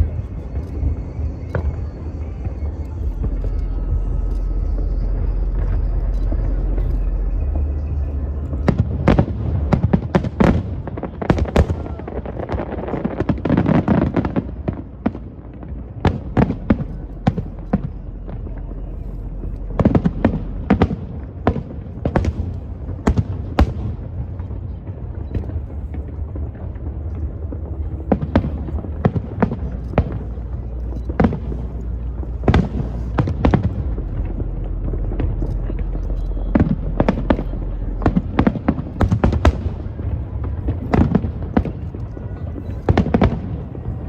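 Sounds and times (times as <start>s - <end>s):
fireworks bangs: 0.0s - 44.0s
low rumble: 0.0s - 44.0s.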